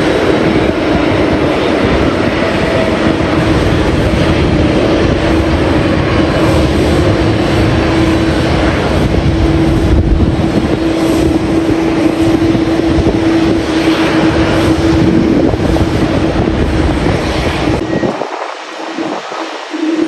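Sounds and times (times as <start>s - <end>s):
jet engine hum: 0.0s - 20.0s
wind rumbling on microphone: 0.0s - 20.0s.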